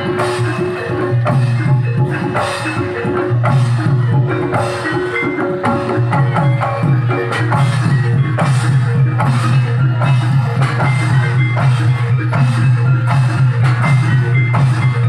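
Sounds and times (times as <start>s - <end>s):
drum strikes: 0.0s - 15.0s
metallophone tones: 0.0s - 15.0s.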